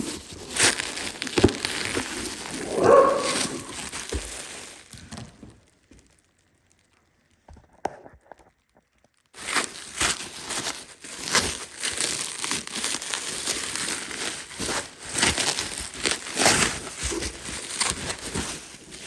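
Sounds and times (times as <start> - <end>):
packaging rustling and crinkling: 0.0 - 19.0.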